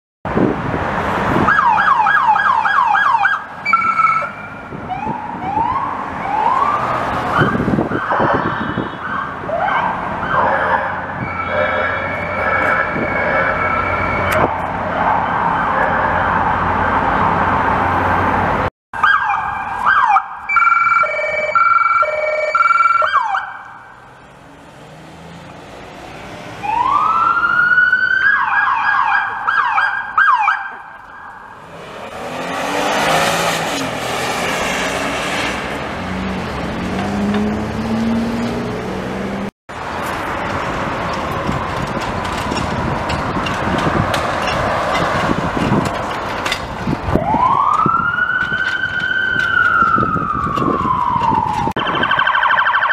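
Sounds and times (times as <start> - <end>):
street traffic: 0.2 - 52.9
police sirens wailing and yelping: 1.3 - 17.8, 19.0 - 34.5, 41.4 - 52.9.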